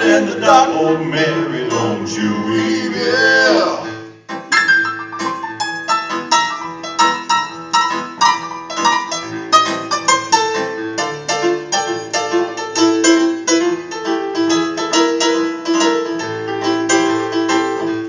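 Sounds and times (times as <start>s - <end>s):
live band instrumental: 3.2s - 18.0s.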